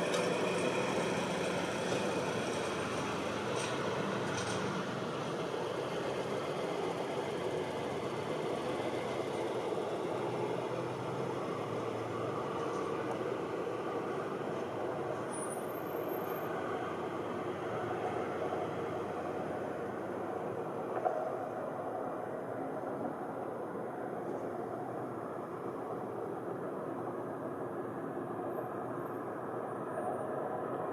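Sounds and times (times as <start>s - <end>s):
jet airliner roaring overhead: 0.0s - 30.9s.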